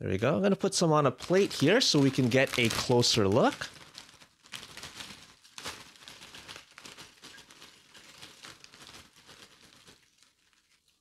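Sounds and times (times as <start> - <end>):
chip bag rustling and crinkling: 1.2 - 11.0.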